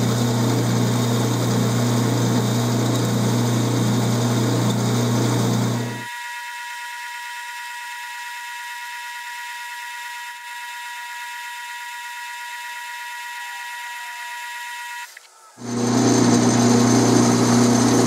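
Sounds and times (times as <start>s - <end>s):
lathe cutting metal whine: 0.0s - 18.0s.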